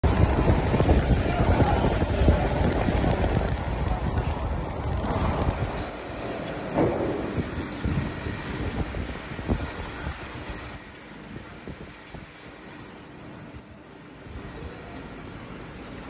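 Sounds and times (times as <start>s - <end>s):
lathe running with rattling gears: 0.0s - 16.0s.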